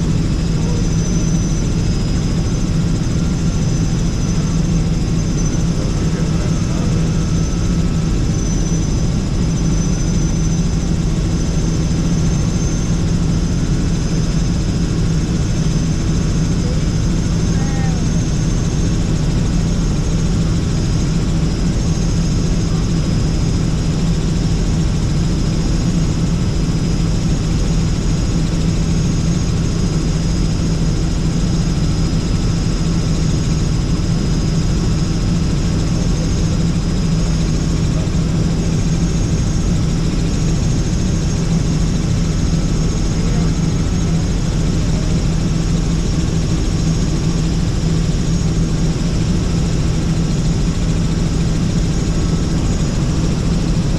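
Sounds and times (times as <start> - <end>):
helicopter engine and rotor noise: 0.0 - 53.9.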